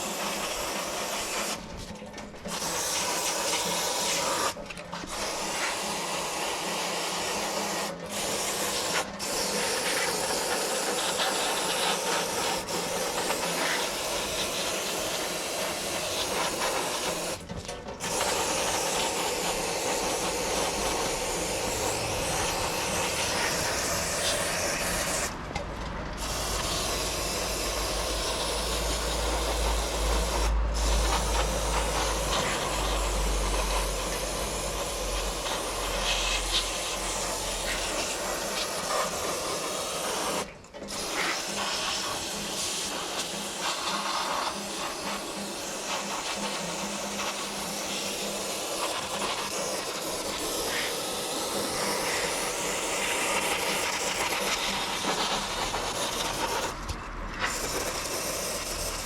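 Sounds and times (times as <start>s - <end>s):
aerosol spraying: 0.0s - 25.4s, 26.2s - 59.0s.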